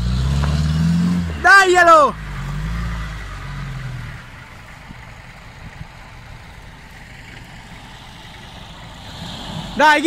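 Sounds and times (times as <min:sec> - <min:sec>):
engine rumbling at low revs: 0:00.0 - 0:10.0.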